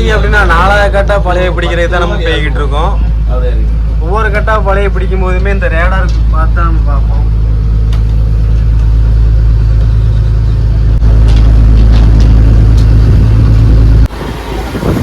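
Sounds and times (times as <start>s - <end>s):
boat engine deep drone: 0.0s - 15.0s.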